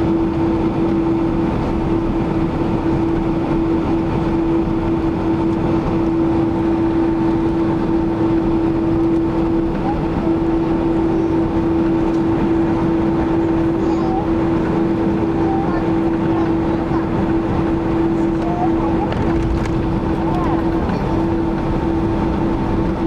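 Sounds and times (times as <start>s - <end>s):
aircraft engines and airflow rushing: 0.0s - 23.0s
constant low hum: 0.0s - 23.0s.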